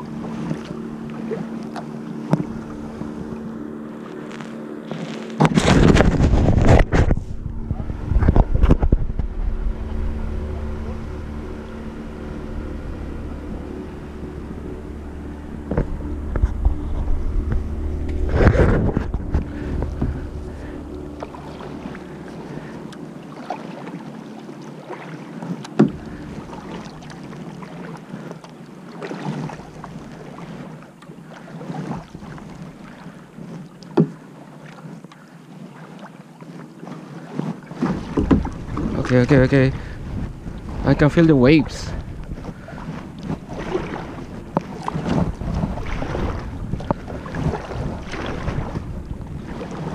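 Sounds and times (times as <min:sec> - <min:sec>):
paddle knocking: 0:00.0 - 0:03.6, 0:05.3 - 0:49.9
distant motorboat engine humming: 0:00.0 - 0:49.9
kayak paddle splashes: 0:00.0 - 0:49.9.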